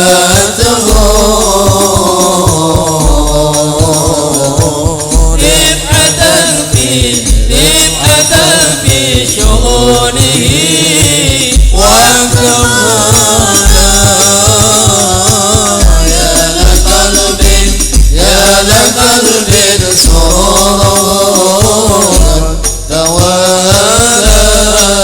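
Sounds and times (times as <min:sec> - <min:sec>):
frame drums deep bass strokes: 0:00.0 - 0:25.0
jingling percussion: 0:00.0 - 0:25.0
voices chanting devotional song: 0:00.0 - 0:25.0.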